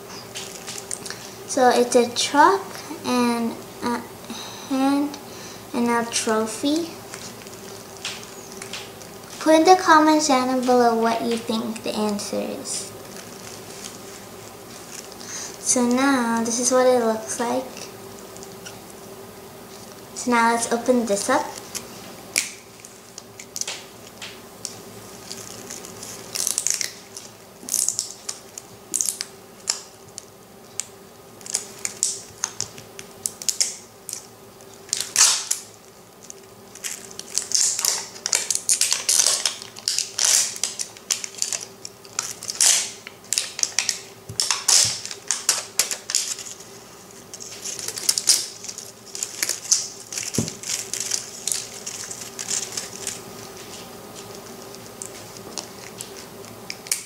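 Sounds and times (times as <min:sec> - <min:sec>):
plastic wrapping crinkling: 0:00.0 - 0:01.5, 0:06.0 - 0:16.8, 0:17.7 - 0:57.0.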